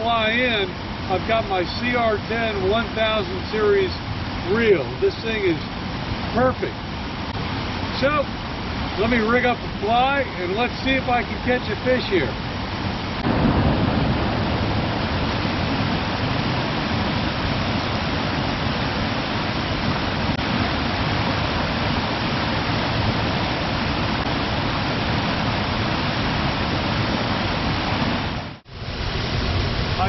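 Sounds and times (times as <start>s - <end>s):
mountain stream rushing over boulders: 0.0s - 30.0s.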